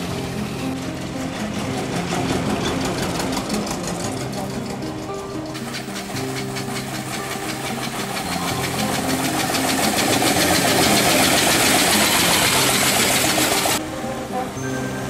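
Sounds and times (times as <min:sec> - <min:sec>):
background music: 0:00.0 - 0:15.0
old car engine ticking: 0:00.3 - 0:13.8.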